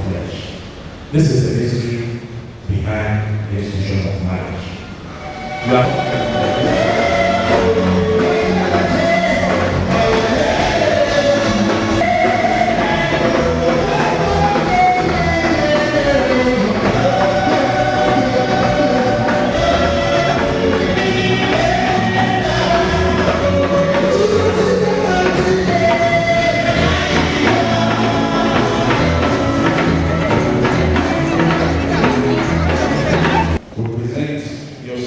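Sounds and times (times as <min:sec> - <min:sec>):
choir singing gospel music: 0:04.3 - 0:33.6.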